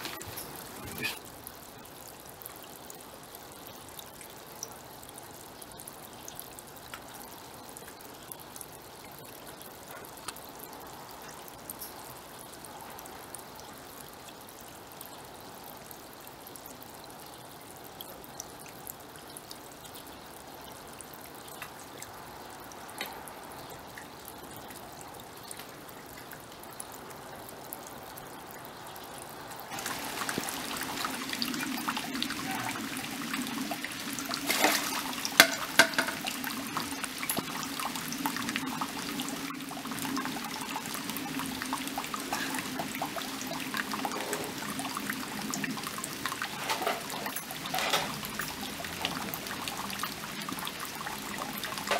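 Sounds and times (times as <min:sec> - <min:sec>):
water trickling into stone basin: 0:00.0 - 0:51.9.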